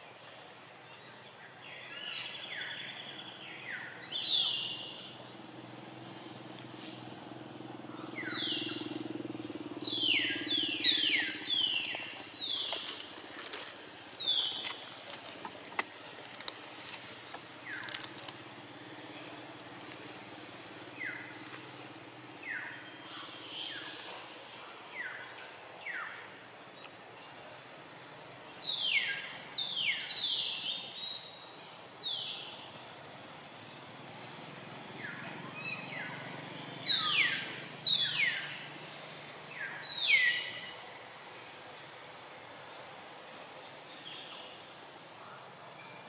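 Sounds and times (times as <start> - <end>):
faint outdoor background hum: 0.0 - 46.0
birds calling: 1.2 - 41.1.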